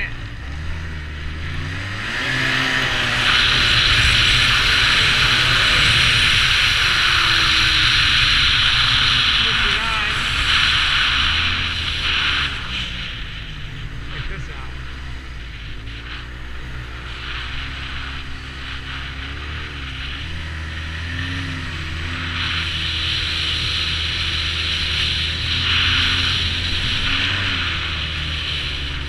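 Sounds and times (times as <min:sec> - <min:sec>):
snowmobile engine running: 0:00.0 - 0:29.0
rushing hiss: 0:02.0 - 0:29.0.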